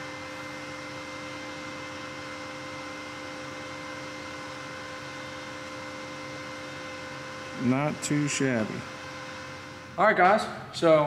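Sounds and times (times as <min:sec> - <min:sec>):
welder electrical hum and fan: 0:00.0 - 0:11.0.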